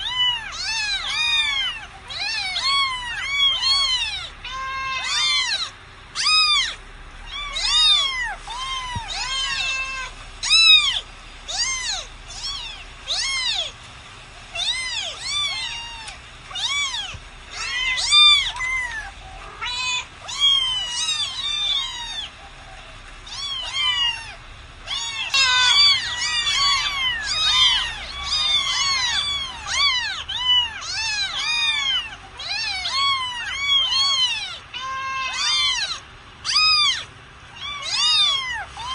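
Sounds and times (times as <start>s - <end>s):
cats meowing: 0.0s - 38.9s.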